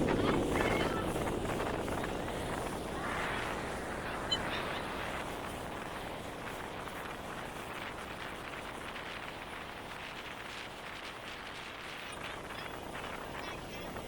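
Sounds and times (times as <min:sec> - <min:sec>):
fast boat running: 0:00.0 - 0:14.0
wind buffeting microphone: 0:00.0 - 0:14.0.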